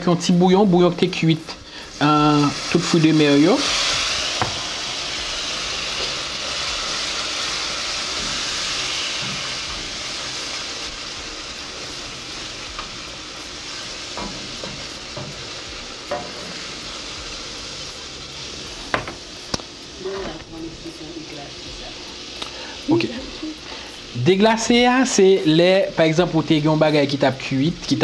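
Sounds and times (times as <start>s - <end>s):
onions sizzling in a pan: 0.0s - 28.0s.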